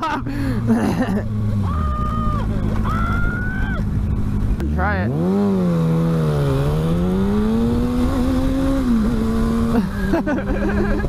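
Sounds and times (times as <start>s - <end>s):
motorcycle engines accelerating: 0.0s - 11.0s.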